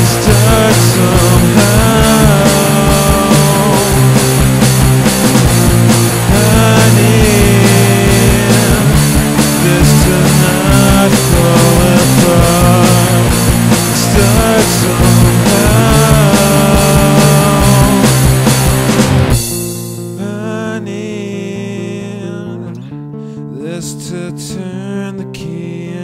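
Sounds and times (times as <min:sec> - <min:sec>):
rock band playing: 0:00.0 - 0:20.9.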